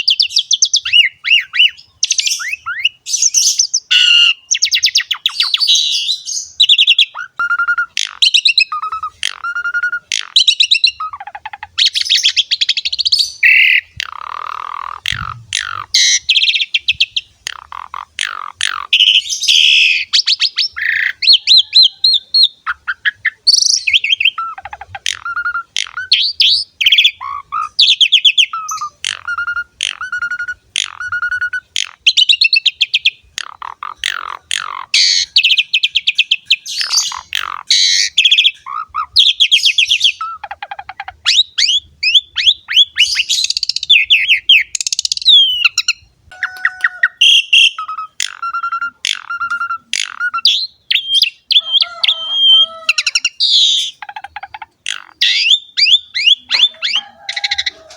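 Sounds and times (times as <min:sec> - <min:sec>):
starling singing: 0:00.0 - 0:57.9.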